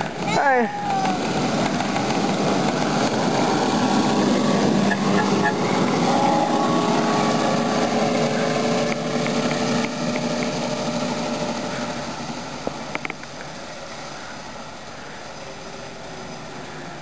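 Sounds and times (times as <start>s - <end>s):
miniature train running: 0.0s - 17.0s.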